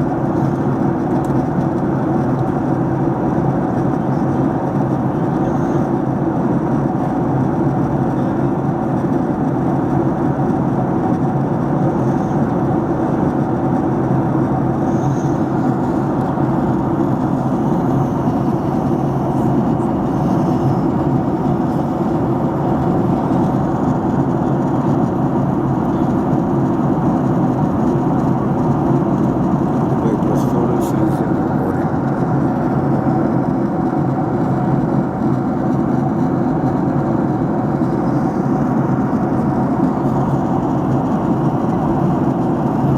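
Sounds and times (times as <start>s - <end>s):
jet engine and airflow rush in cabin: 0.0s - 42.9s.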